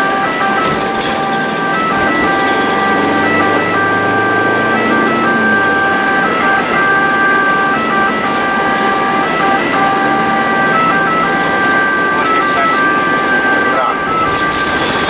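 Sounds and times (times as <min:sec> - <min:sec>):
ambulance two-tone siren: 0:00.0 - 0:15.0
engine and road noise: 0:00.0 - 0:15.0.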